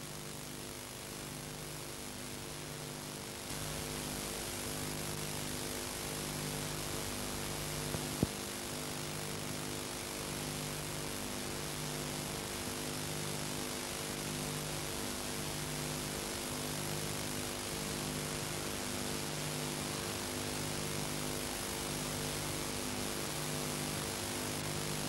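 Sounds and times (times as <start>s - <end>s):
tape hiss: 0.0s - 25.0s.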